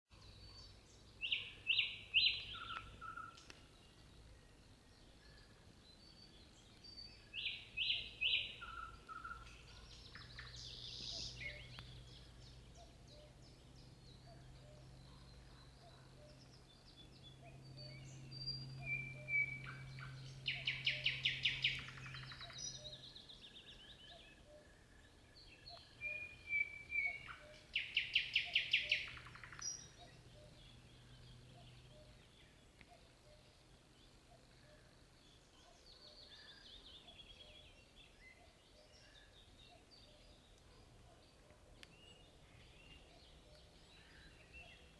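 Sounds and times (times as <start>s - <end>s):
nightingale singing: 0.1s - 44.9s.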